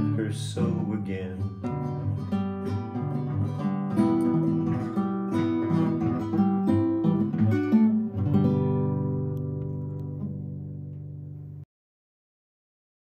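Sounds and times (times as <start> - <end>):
acoustic guitar picked notes: 0.0 - 11.6.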